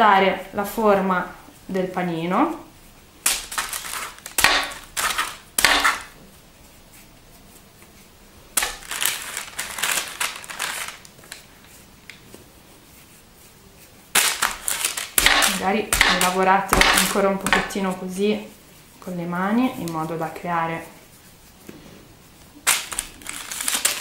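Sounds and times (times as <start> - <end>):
parchment paper rustling: 0.6 - 24.0.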